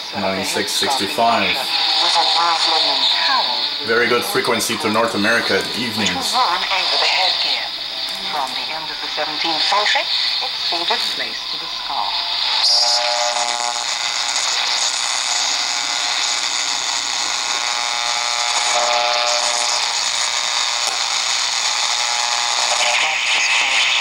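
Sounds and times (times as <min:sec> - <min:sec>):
buzzy radio tones: 0:00.0 - 0:24.0
radio static hiss: 0:00.0 - 0:24.0.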